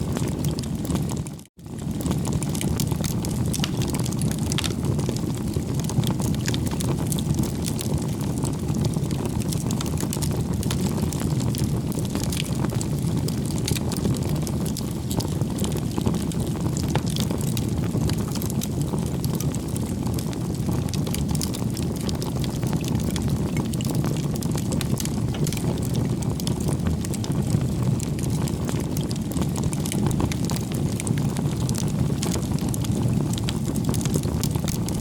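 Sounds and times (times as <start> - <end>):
bonfire flames rumbling: 0.0 - 35.0
burning wood crackling and popping: 0.0 - 35.0.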